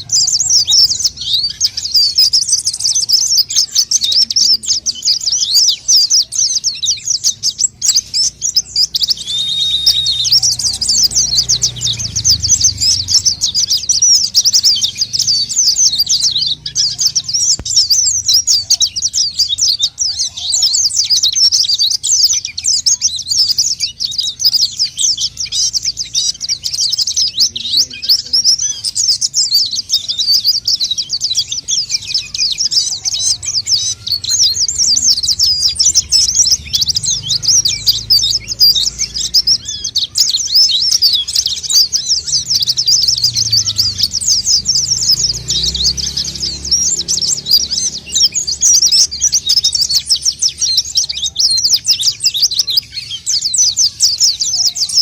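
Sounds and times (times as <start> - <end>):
bird twittering song: 0.0 - 55.0.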